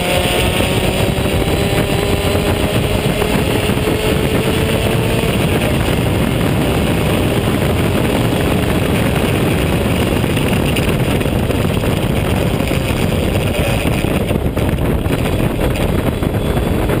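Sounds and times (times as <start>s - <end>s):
race car engine: 0.0s - 17.0s
wind rush: 0.0s - 17.0s.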